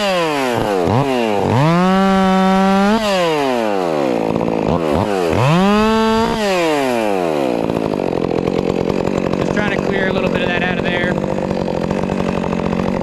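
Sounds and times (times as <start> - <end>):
chainsaw revving and idling: 0.0 - 13.0.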